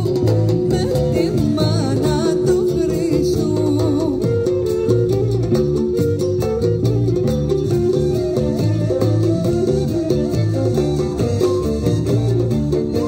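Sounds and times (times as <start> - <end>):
live band music: 0.0 - 13.0
plucked strings: 0.0 - 13.0.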